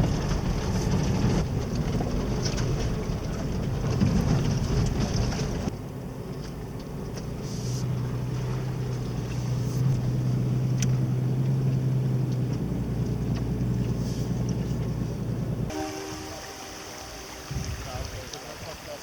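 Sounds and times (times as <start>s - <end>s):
off-road vehicle engine running: 0.0s - 16.6s.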